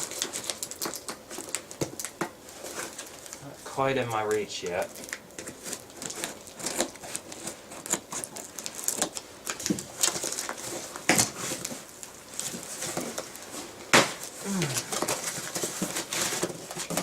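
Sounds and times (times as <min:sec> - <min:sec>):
packaging rustling and scraping: 0:00.0 - 0:03.8, 0:04.6 - 0:17.0.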